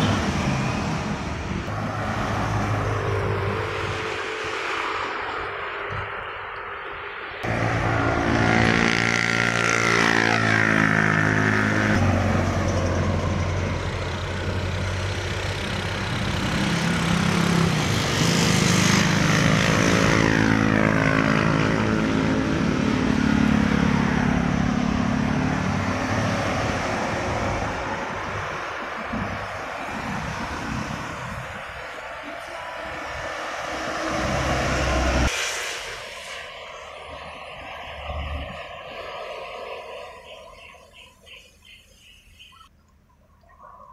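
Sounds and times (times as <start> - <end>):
vehicles passing by: 0.0 - 43.9.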